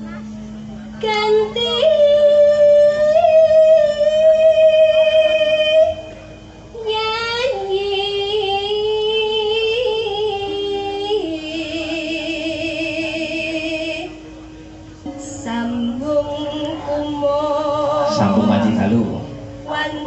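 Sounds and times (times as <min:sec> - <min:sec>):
woman singing into a microphone: 0:00.9 - 0:06.1, 0:06.7 - 0:14.2, 0:15.0 - 0:18.3, 0:19.5 - 0:20.0.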